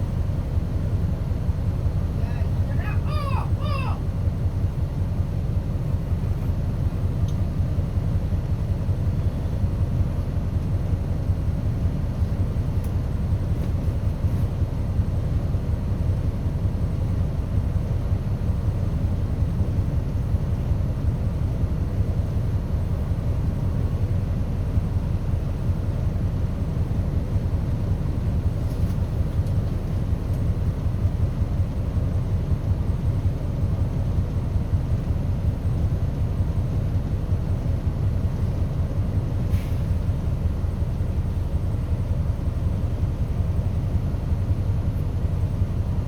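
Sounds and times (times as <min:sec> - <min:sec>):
bus engine rumbling: 0:00.0 - 0:46.0.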